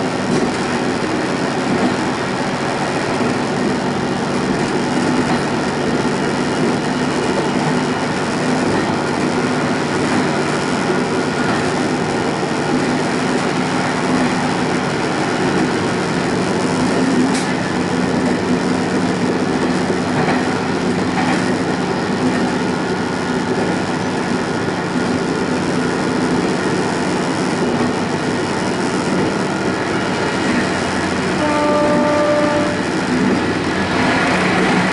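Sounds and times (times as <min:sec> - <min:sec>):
diesel engine hum: 0:00.0 - 0:34.9
wheels rumbling on rails: 0:00.0 - 0:34.9.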